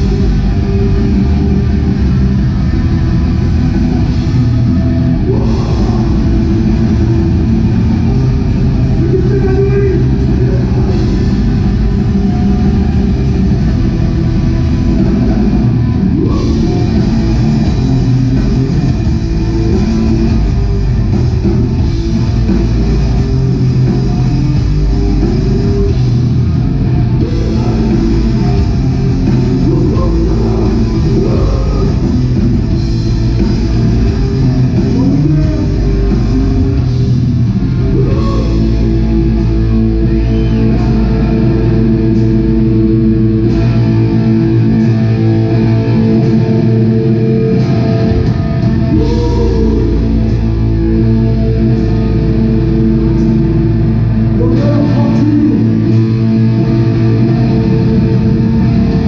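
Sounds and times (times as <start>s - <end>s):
live metal band playing loud: 0.0s - 59.0s.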